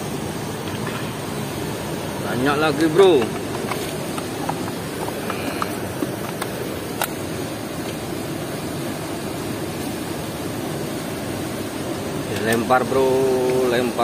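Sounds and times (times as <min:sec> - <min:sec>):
water rushing through sluice gate: 0:00.0 - 0:14.0.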